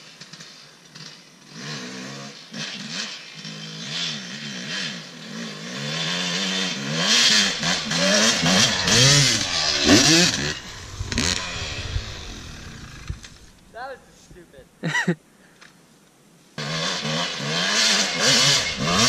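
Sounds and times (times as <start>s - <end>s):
dirt bike engine revving: 0.3s - 14.0s, 16.6s - 19.0s.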